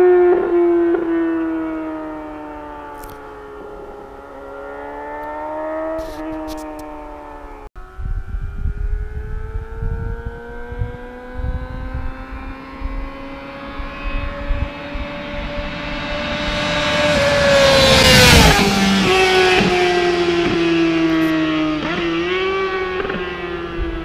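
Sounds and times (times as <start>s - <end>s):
motorcycle accelerating past: 0.0s - 24.0s.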